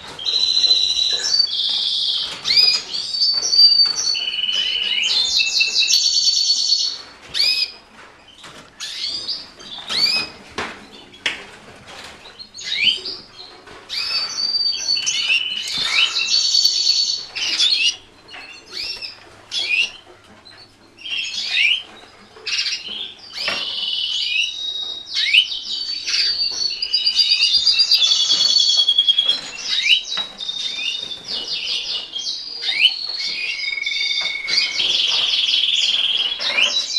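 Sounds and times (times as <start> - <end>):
canaries singing trills: 0.0 - 36.9.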